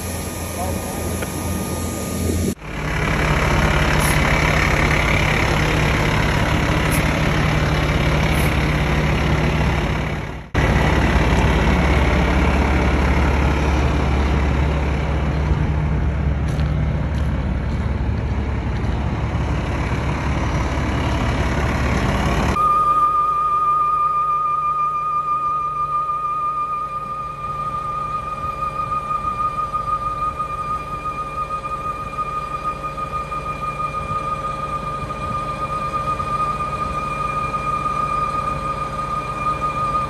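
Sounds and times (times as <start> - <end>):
truck engine humming: 0.0 - 40.0.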